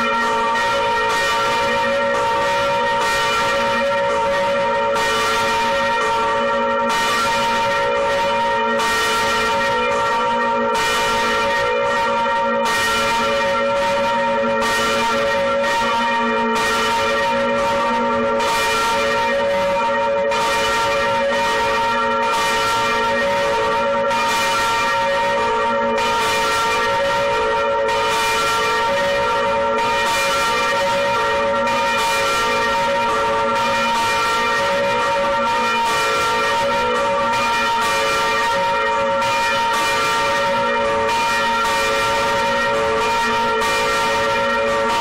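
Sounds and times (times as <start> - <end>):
large bells ringing: 0.0 - 45.0.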